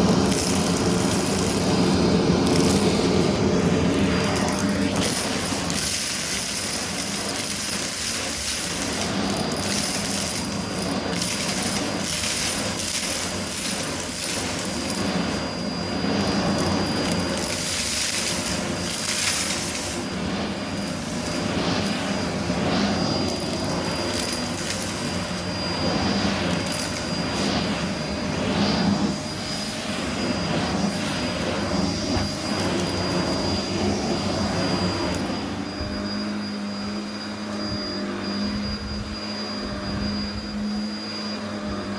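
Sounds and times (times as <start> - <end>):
debris crackling being sucked up: 0.0 - 36.0
vacuum cleaner whining: 0.0 - 41.9.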